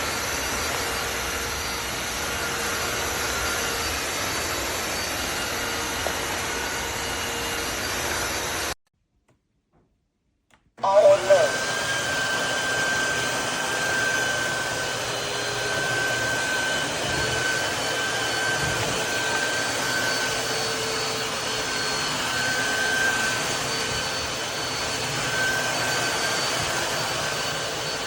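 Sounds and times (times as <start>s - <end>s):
vacuum mop suction and motor whine: 0.0s - 8.8s, 10.8s - 28.0s.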